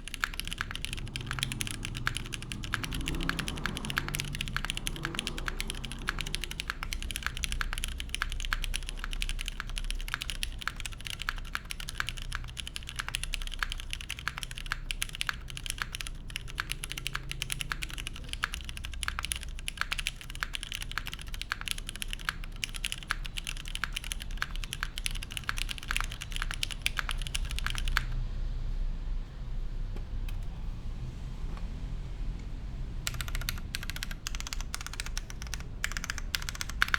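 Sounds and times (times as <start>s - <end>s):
mechanical keyboard key clacks: 0.0s - 28.2s, 33.1s - 36.9s.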